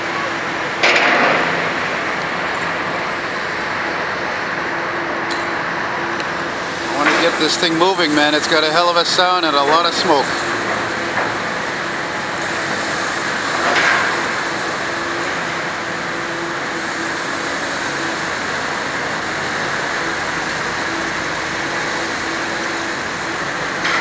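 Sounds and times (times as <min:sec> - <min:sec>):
crane diesel engine running: 0:00.0 - 0:24.0.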